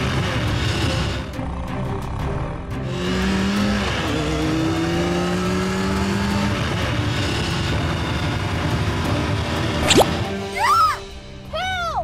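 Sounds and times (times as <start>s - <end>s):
vehicle engine humming: 0.0s - 10.5s.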